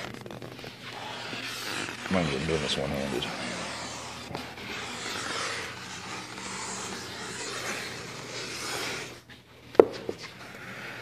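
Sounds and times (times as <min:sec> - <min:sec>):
glue paddle scraping: 0:00.0 - 0:09.4.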